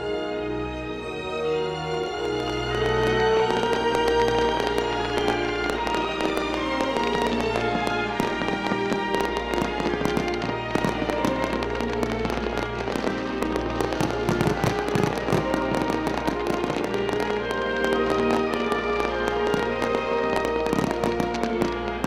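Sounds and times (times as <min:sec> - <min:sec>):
background music: 0:00.0 - 0:22.0
fireworks bangs and crackles: 0:01.4 - 0:22.0.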